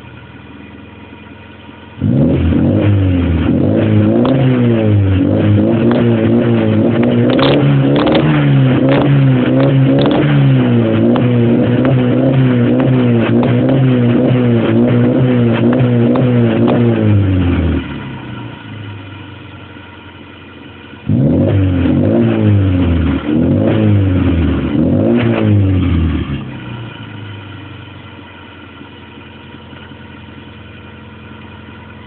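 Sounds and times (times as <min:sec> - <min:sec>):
car engine idling: 0:00.0 - 0:32.0
car engine revving: 0:00.0 - 0:32.0.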